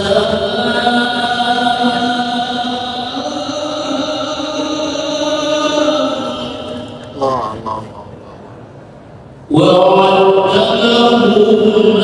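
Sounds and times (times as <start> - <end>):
man reciting in chant: 0.0 - 8.5, 9.4 - 12.0.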